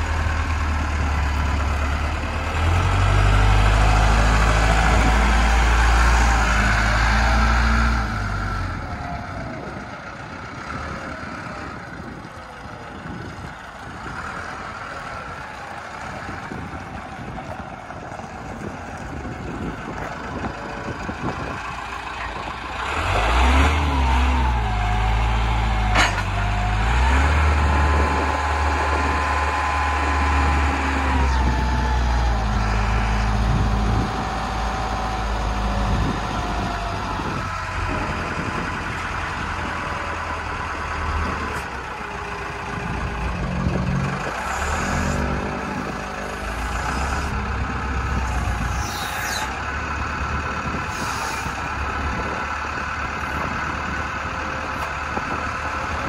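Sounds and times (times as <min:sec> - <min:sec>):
forklift engine running: 0:00.0 - 0:56.0.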